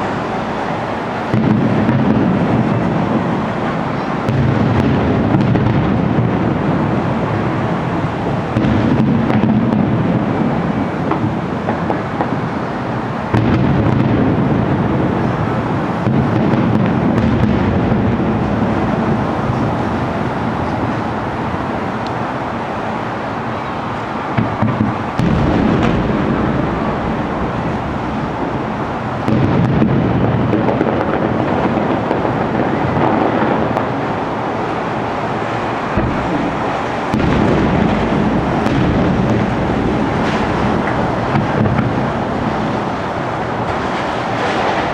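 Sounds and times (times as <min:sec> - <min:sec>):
fireworks booming: 0:00.0 - 0:44.9.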